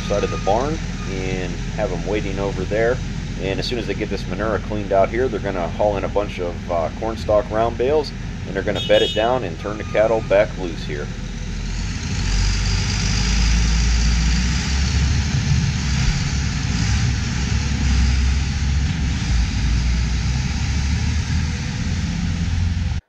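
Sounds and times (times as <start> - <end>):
tractor diesel engine rumbling: 0.0 - 23.0.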